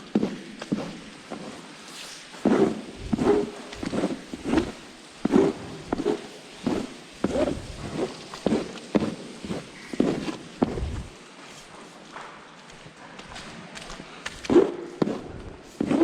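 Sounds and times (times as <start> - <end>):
footsteps on hard floor: 0.1 - 1.7, 2.4 - 16.0.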